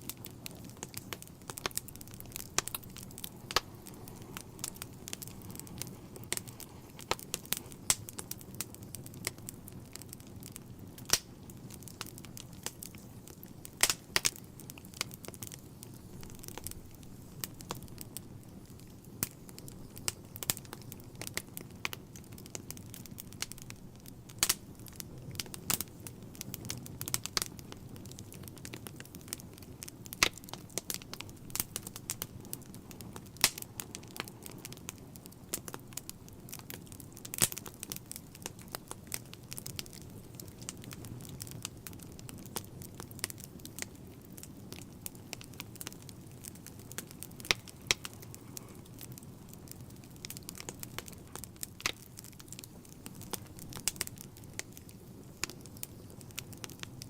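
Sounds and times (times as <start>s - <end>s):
logs crackling and popping: 0.0s - 57.0s
low rush of flames: 0.0s - 57.0s.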